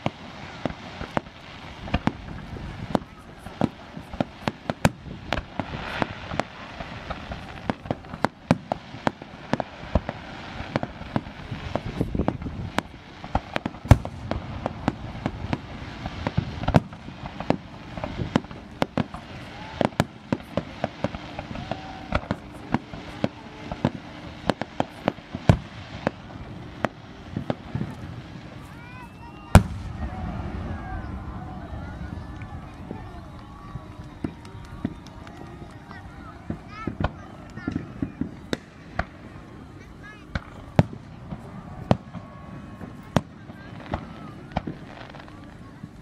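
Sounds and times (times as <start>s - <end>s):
fireworks bursting: 0.0s - 46.0s
low steady background noise: 0.0s - 46.0s.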